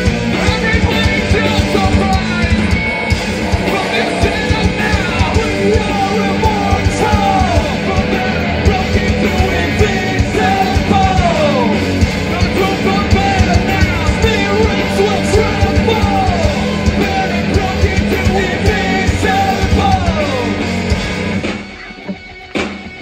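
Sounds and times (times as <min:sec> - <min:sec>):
sung and shouted lead vocal: 0:00.0 - 0:21.9
bass guitar: 0:00.0 - 0:23.0
drums: 0:00.0 - 0:23.0
electric guitars: 0:00.0 - 0:23.0.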